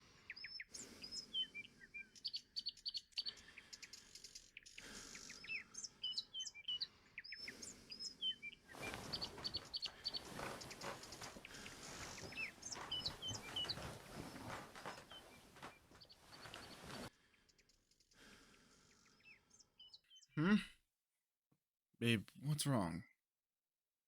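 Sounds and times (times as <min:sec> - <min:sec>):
small birds chirping: 0:00.0 - 0:20.6.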